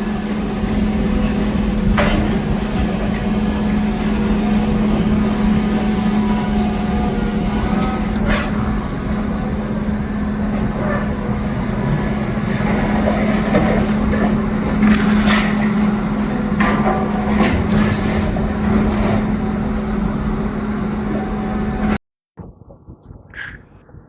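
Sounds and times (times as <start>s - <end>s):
wind buffeting microphone: 0.0s - 15.0s, 15.6s - 24.0s
excavator diesel engine humming: 0.0s - 22.0s.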